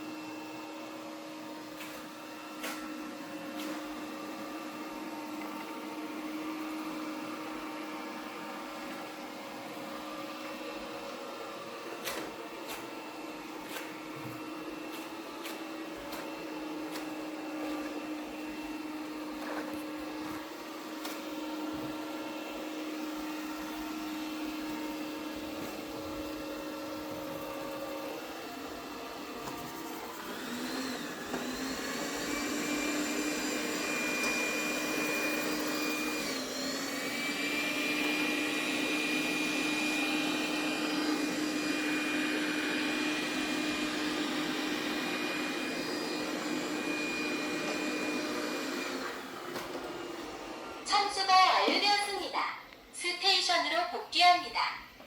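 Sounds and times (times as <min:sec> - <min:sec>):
robot vacuum motor humming: 0:00.0 - 0:52.2.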